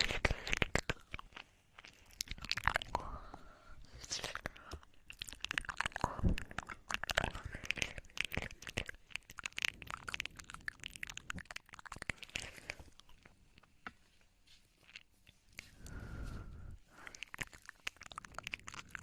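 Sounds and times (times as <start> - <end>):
wet mouth clicks and smacks: 0.0 - 13.7, 16.9 - 19.0.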